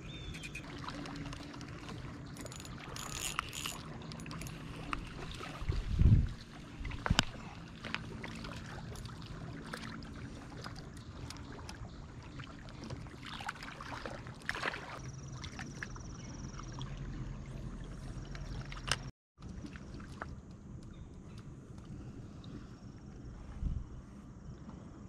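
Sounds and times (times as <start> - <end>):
distant motorboat engine drone: 0.0 - 25.0.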